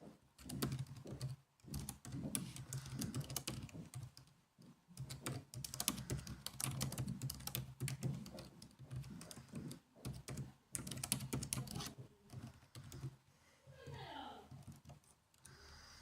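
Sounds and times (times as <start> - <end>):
laptop keyboard typing: 0.4 - 13.2, 14.4 - 15.6.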